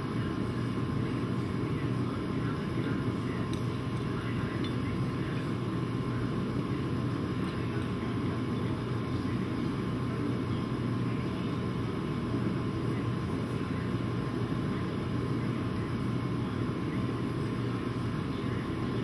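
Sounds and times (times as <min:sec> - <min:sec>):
machinery droning hum: 0:00.0 - 0:19.0.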